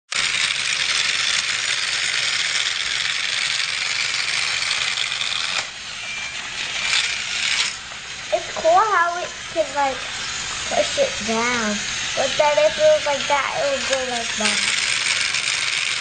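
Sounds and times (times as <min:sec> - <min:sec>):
toy train clattering on track: 0:00.1 - 0:10.0, 0:10.7 - 0:16.0.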